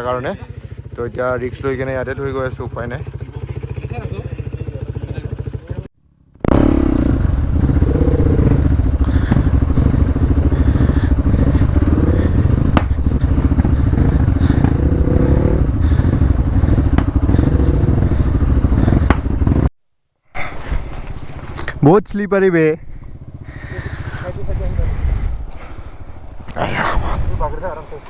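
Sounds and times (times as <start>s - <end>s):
motorcycle engine running: 0.0s - 19.7s, 22.8s - 28.0s.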